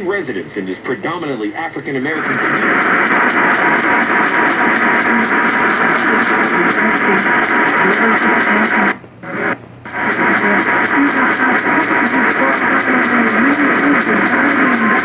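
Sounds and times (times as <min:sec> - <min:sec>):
music through radio: 0:00.0 - 0:15.0
radio hiss: 0:00.0 - 0:15.0.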